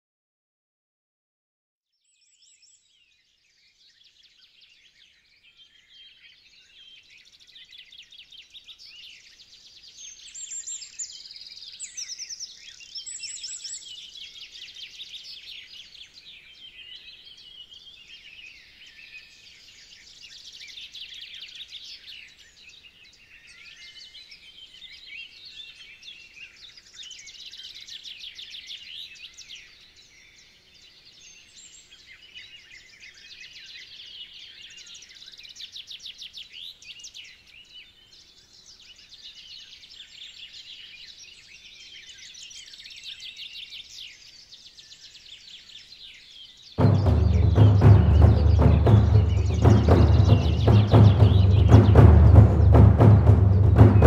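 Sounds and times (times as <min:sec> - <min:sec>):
songbirds chirping and trilling: 0:02.0 - 0:54.0.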